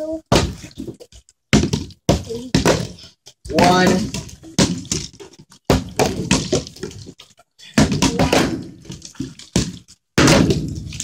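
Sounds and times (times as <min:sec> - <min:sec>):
plastic bottles landing on floor: 0:00.3 - 0:11.0.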